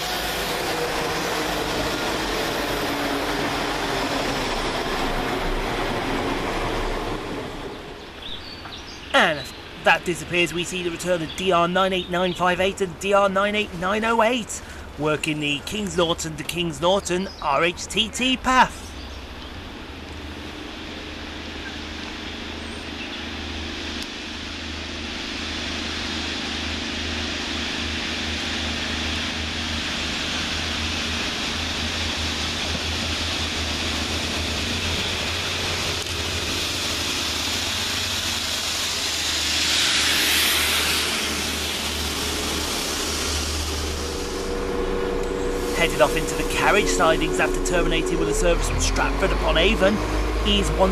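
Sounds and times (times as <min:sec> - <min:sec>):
diesel train engine rumble: 0:00.0 - 0:50.9
rush of train passing: 0:00.0 - 0:50.9.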